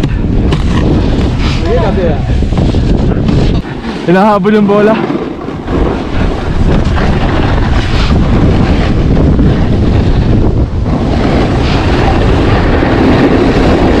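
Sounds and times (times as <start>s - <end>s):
wind buffeting microphone: 0.0s - 14.0s
snowboard scraping over snow: 0.1s - 14.0s.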